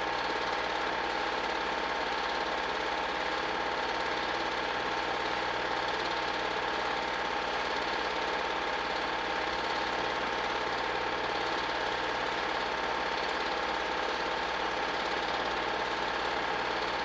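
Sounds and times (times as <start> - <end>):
film projector whirring and clattering: 0.0 - 17.0.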